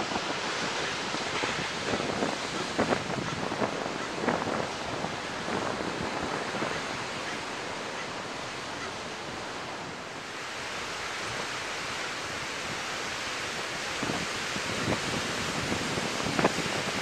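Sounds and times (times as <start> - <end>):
ocean surf breaking on rocks: 0.0 - 17.0.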